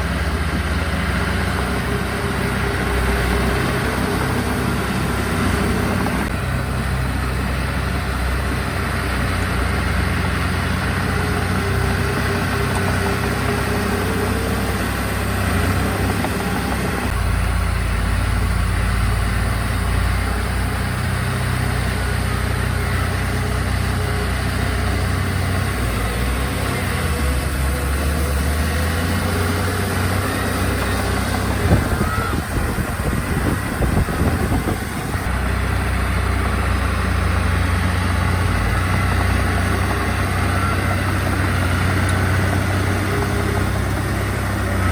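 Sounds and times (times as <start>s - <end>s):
heavy machinery diesel engines: 0.0s - 44.9s.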